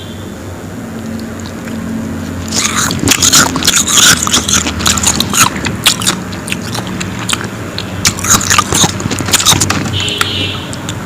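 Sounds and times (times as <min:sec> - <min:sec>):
person chewing frost ice: 0:00.9 - 0:11.0.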